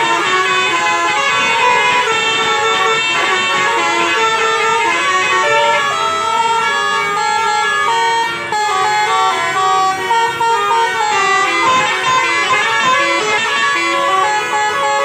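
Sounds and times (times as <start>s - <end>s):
musical bus horns playing tunes: 0.0s - 15.0s.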